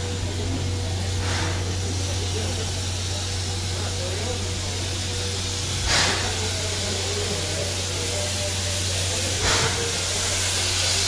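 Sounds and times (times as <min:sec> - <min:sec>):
sharp burst of escaping steam: 0:00.0 - 0:11.0
steam hissing: 0:00.0 - 0:11.0.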